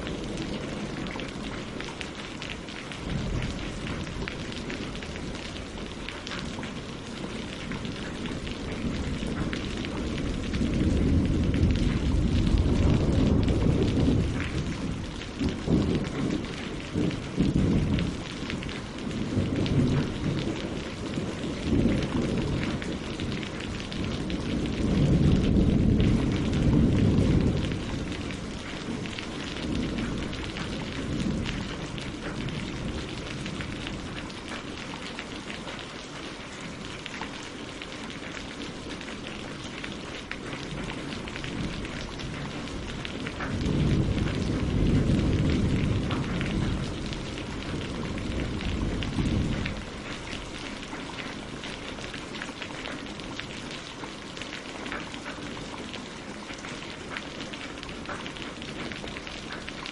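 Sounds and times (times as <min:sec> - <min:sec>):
rain pattering on leaves and water: 0:00.0 - 0:59.9.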